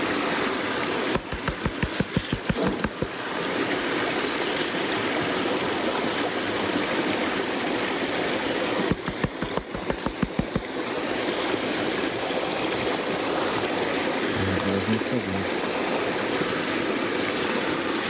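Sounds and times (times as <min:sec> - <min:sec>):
creek rushing: 0:00.0 - 0:18.0.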